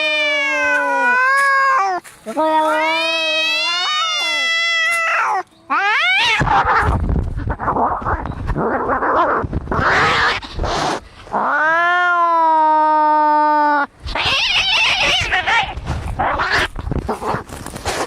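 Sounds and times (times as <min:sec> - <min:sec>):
cats screeching in a fight: 0:00.0 - 0:17.4.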